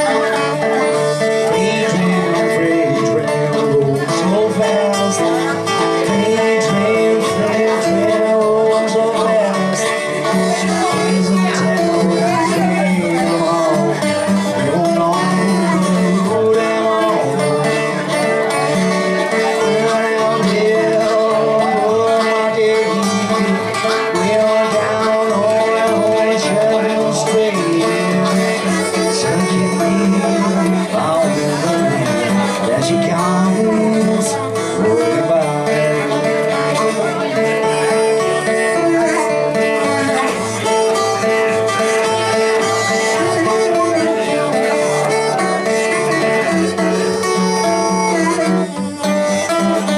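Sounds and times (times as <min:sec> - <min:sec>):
harmonica bending notes: 0:00.0 - 0:49.9
plucked string accompaniment: 0:00.0 - 0:49.9.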